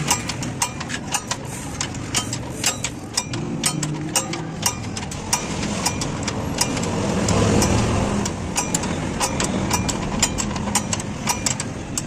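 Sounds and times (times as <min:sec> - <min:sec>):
sharp irregular clicks: 0:00.0 - 0:12.0
vehicle engine running: 0:00.0 - 0:12.0.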